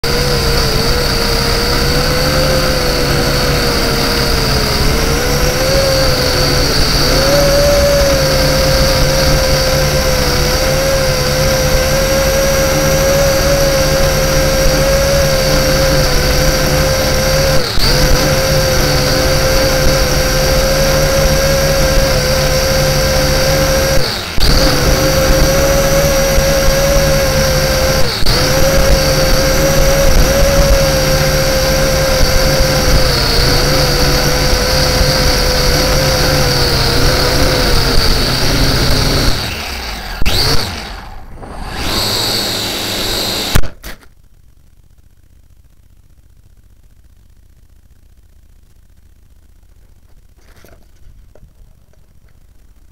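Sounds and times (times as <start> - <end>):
quadcopter motors whining: 0.0 - 44.0.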